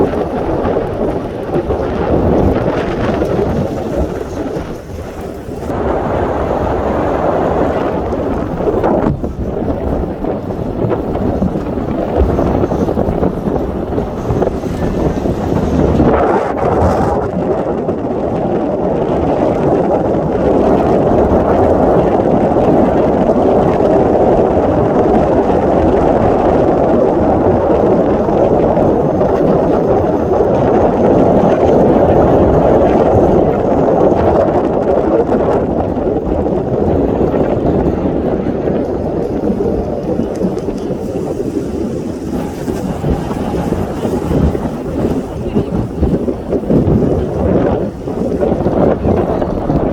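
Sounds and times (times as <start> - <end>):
boat engine rumble: 0.0 - 49.9
wind over microphone: 0.0 - 49.9.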